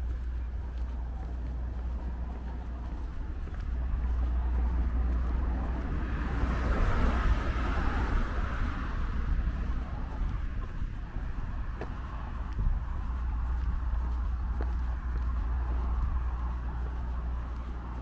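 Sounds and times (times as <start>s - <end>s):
car passing: 0.0s - 18.0s
steady low rumble: 0.0s - 18.0s.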